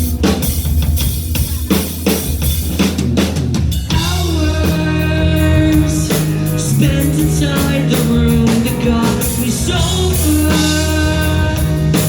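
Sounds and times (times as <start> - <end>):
drum kit hits: 0.0 - 12.0
rock band playing live: 0.0 - 12.0.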